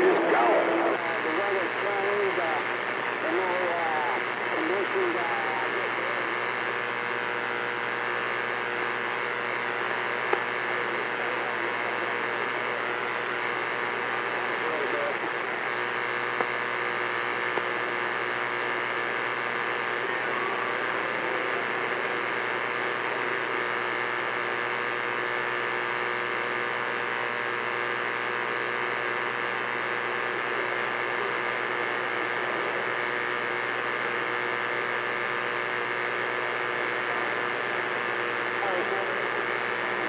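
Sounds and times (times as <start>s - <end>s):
faint steady tones: 0.0s - 40.0s
radio static and hum: 0.0s - 40.0s.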